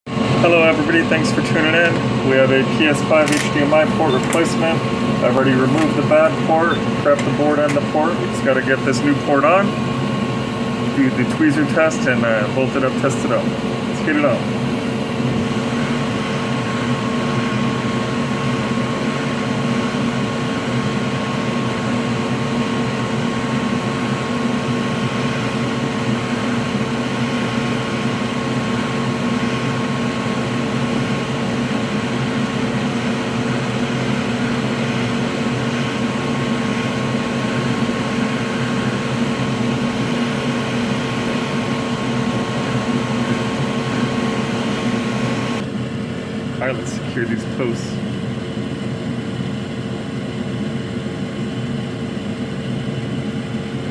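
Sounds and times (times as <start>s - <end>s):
electric fan whirring: 0.1s - 53.9s.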